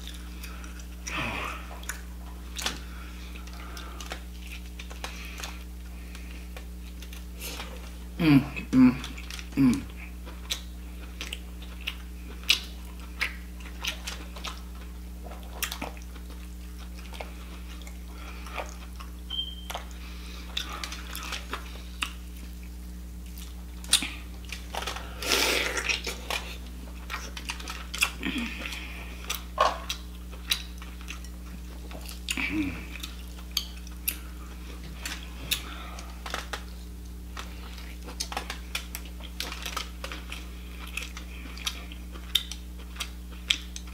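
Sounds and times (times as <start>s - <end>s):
wet chewing: 0.0s - 8.0s, 8.6s - 43.9s
steady low hum: 0.0s - 43.9s.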